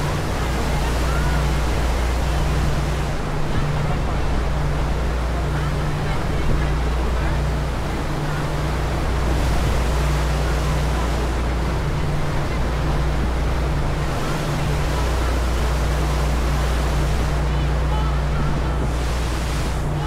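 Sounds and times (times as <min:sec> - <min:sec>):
ferry engines droning: 0:00.0 - 0:20.0
wake water rushing: 0:00.0 - 0:20.0.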